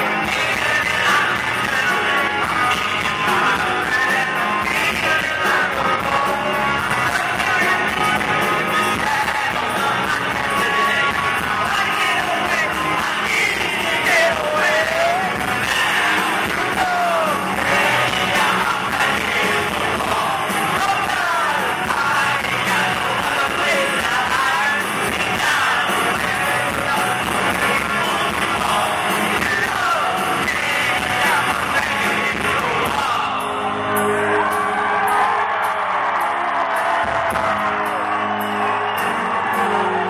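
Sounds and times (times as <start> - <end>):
lead singer's voice: 0.0 - 40.0
live rock band playing: 0.0 - 40.0.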